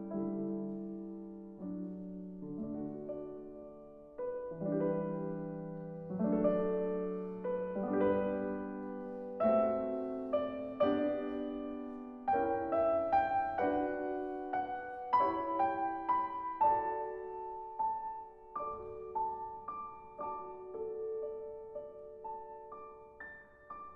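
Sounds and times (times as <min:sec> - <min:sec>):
slow piano music: 0:00.0 - 0:23.9.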